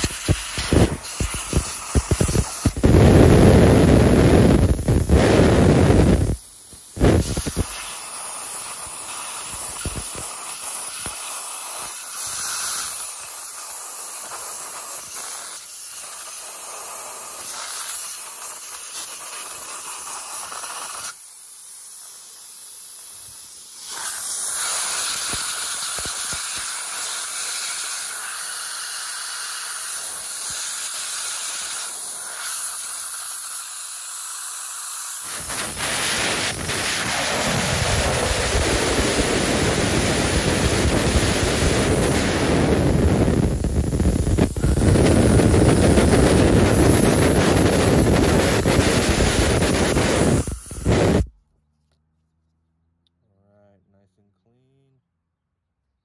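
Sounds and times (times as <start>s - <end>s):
compressed gas hissing from nozzle: 0.0s - 51.3s.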